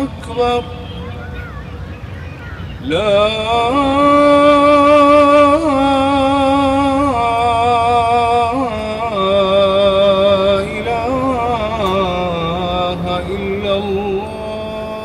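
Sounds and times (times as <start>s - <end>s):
man chanting call to prayer: 0.0s - 15.0s.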